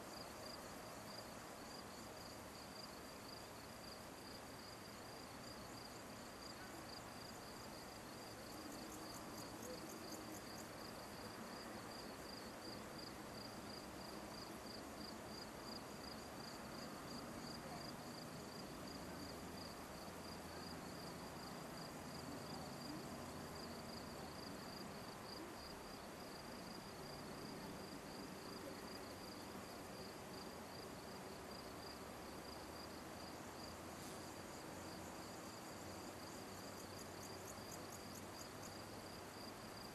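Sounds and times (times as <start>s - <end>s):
soft hiss: 0.0s - 39.9s.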